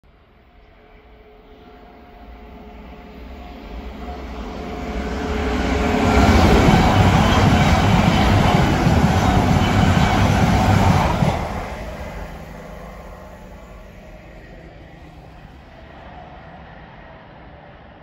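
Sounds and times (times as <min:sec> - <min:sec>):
train passing at speed: 0:00.1 - 0:18.0.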